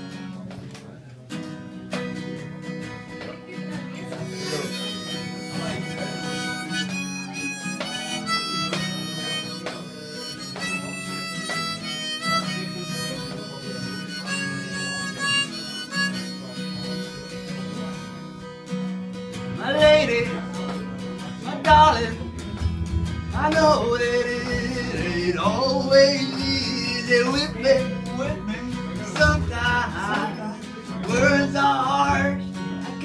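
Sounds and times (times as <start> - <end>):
strummed acoustic guitar: 0.0 - 33.0
harmonica melody: 2.2 - 33.0.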